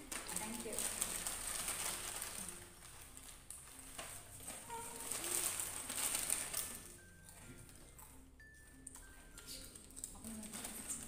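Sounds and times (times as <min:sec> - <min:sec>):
foil snack packets crinkling: 0:00.0 - 0:08.0, 0:09.3 - 0:11.0.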